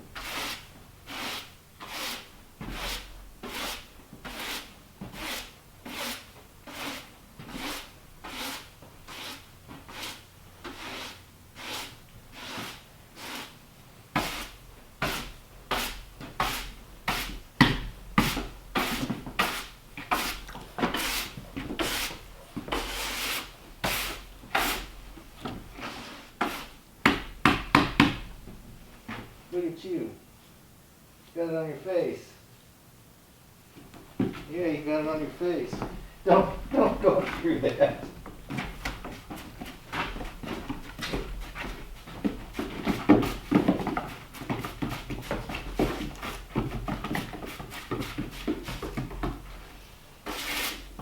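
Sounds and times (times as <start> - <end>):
hand tool rasping wood: 0.2 - 13.6, 14.2 - 25.0, 25.8 - 28.2, 35.7 - 49.4, 50.2 - 51.0.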